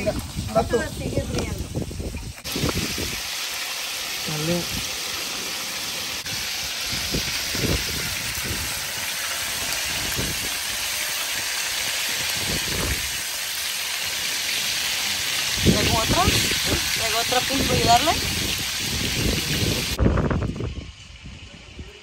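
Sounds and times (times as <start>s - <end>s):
oil sizzling: 0.0s - 21.5s.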